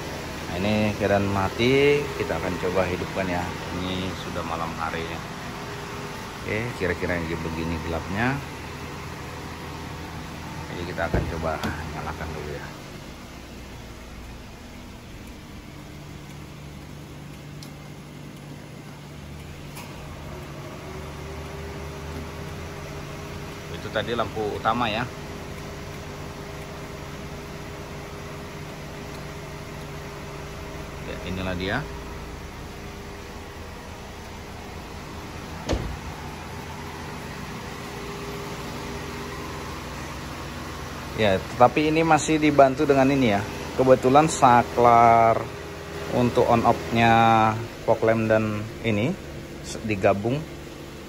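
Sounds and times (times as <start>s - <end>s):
car idling: 0.0s - 51.0s
low mechanical hum: 0.0s - 51.0s.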